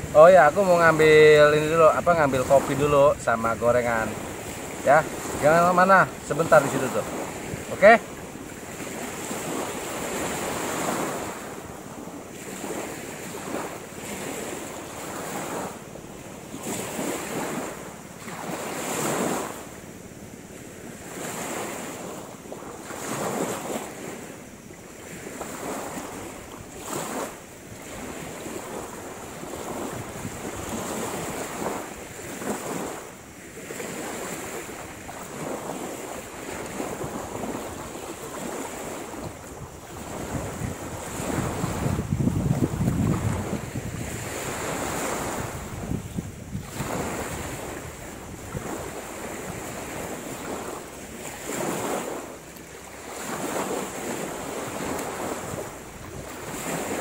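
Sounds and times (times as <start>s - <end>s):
wind buffeting microphone: 0.0s - 19.5s, 25.1s - 33.0s, 33.8s - 52.2s, 53.1s - 57.0s
small waves washing ashore: 0.0s - 57.0s.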